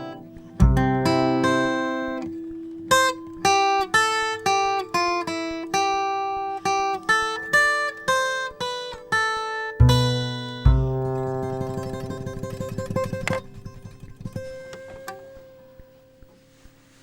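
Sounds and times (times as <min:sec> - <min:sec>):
strummed guitar chord: 0:00.0 - 0:16.7
acoustic guitar picking melody: 0:00.0 - 0:17.0.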